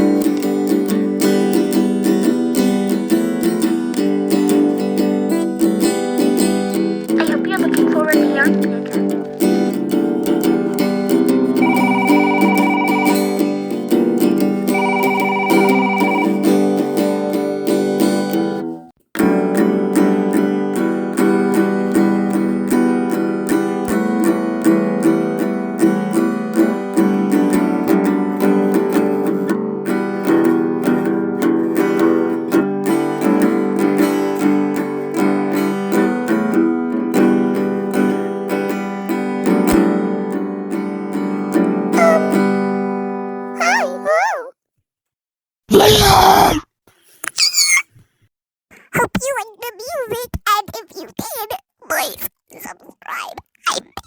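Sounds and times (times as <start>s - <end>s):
acoustic guitar plucked and strummed: 0.0s - 44.5s.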